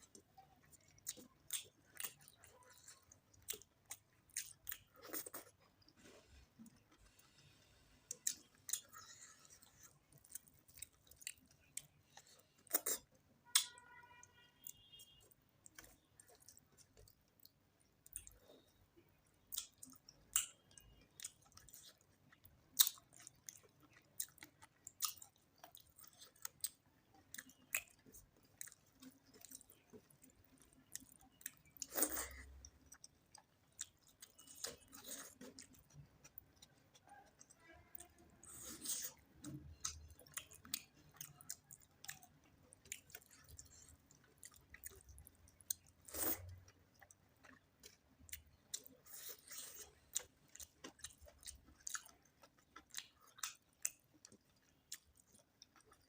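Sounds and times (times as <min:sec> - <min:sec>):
chewing with wet mouth clicks: 0:00.0 - 0:06.0, 0:08.1 - 0:14.8, 0:15.6 - 0:56.0.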